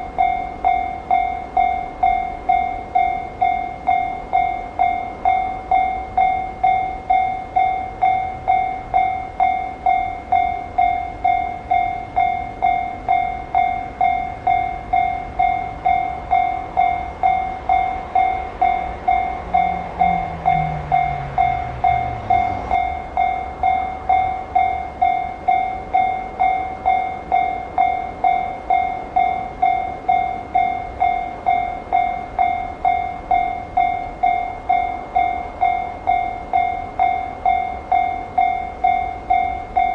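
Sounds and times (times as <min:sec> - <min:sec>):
level-crossing warning bell: 0:00.0 - 0:39.9
train rumbling past: 0:00.0 - 0:39.9.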